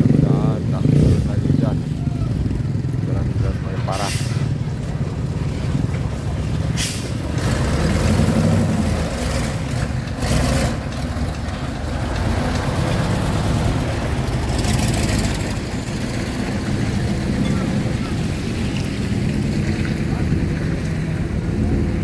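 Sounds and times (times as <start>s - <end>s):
truck engine low drone: 0.0s - 22.0s.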